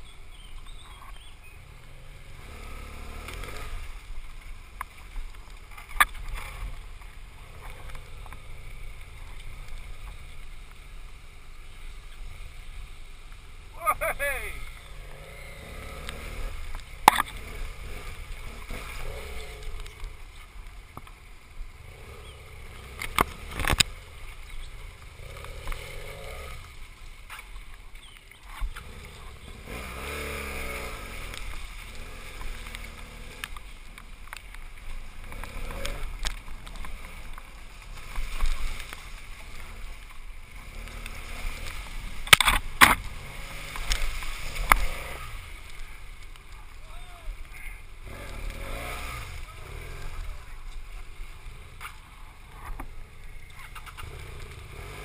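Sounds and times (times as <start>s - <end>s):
motorcycle engine at low revs: 0.0s - 55.0s
rush of tyres and water: 0.0s - 55.0s.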